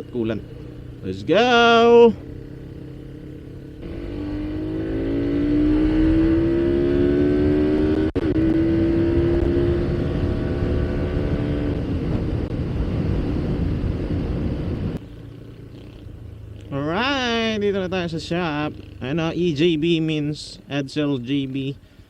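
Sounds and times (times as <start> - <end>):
motorcycle engine: 0.0 - 20.6
wind and road rush: 0.0 - 22.0.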